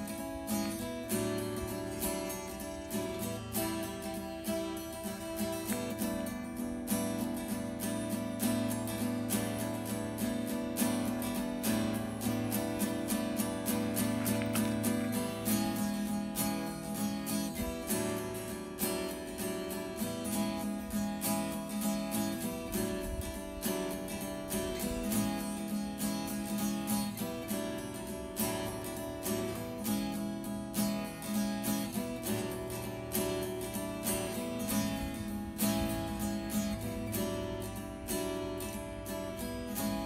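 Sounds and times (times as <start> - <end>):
strummed acoustic guitar: 0.0 - 40.0.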